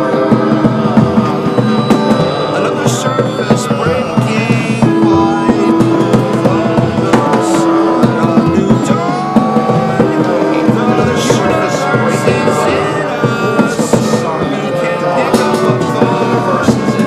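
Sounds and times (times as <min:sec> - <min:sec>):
drums: 0:00.0 - 0:17.0
instrument holding sliding notes: 0:00.0 - 0:17.0.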